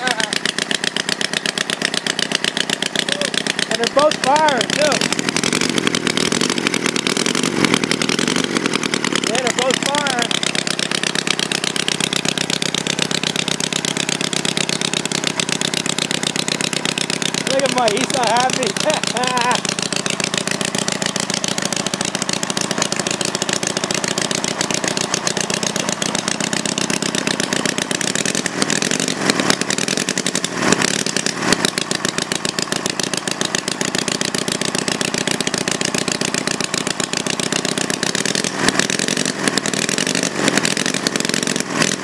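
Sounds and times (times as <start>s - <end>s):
engine popping exhaust: 0.0s - 42.0s.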